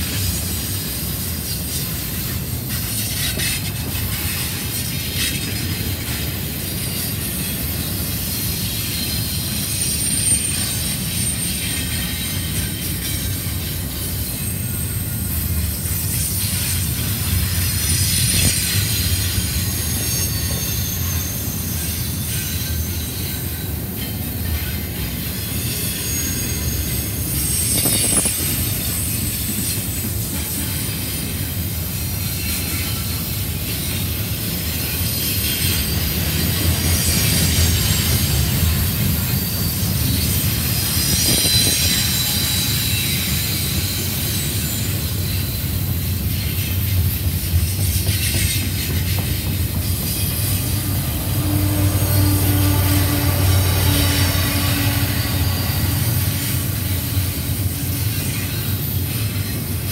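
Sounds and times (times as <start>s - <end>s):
train wheels rumbling on rails: 0.0s - 59.9s
high-pitched wheel squeal: 1.3s - 59.9s.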